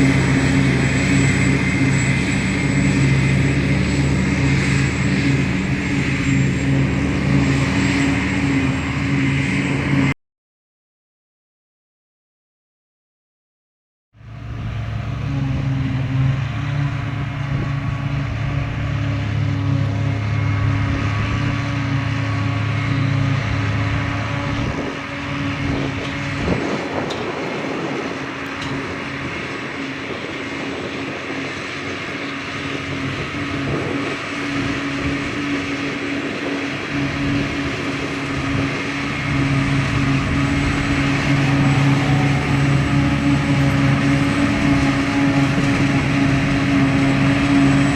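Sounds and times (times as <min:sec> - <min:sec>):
diesel engine humming: 0:00.0 - 0:10.2, 0:14.2 - 0:47.9.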